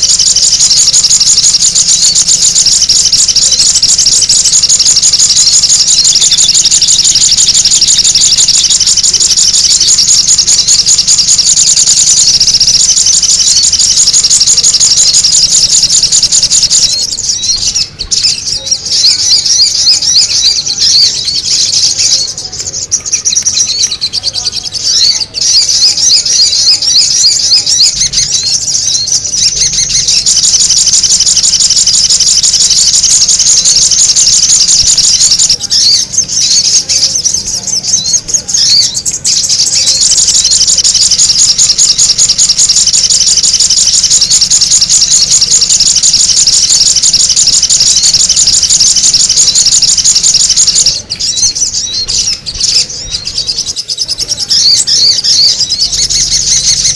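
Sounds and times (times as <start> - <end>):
bird chirping rapidly: 0.0 - 56.9.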